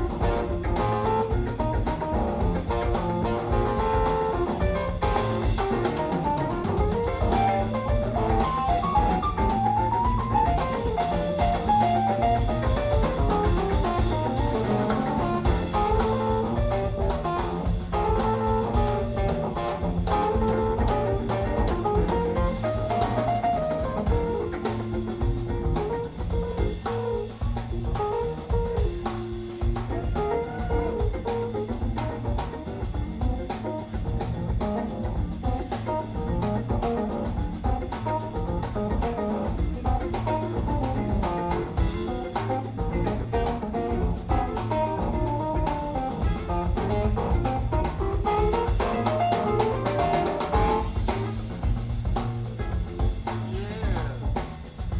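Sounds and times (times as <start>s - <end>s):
instrumental jazz blues music: 0.0s - 54.9s.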